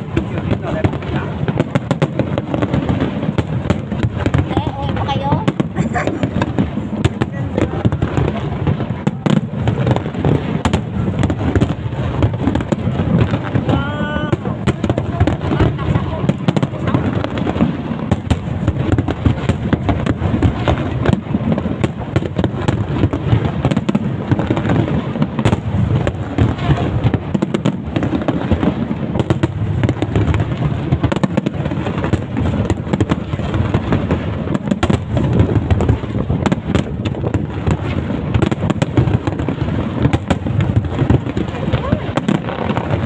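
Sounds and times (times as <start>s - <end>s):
fireworks cracking and popping: 0.0s - 43.0s.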